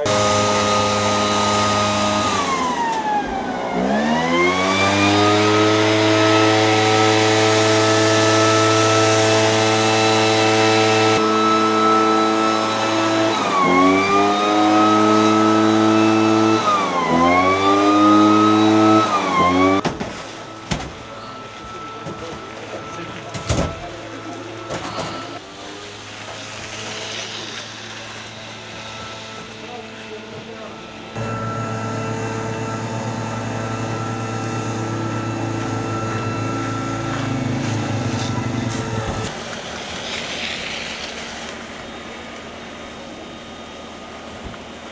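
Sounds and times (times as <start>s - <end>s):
small engine running with whine: 0.0s - 19.8s, 20.4s - 44.9s.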